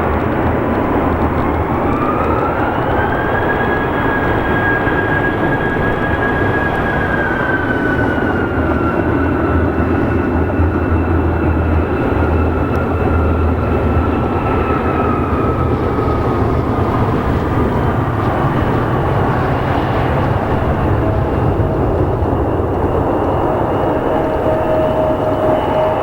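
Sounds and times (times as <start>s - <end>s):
jet engines roaring: 0.0s - 26.0s
thin engine whine: 0.0s - 26.0s.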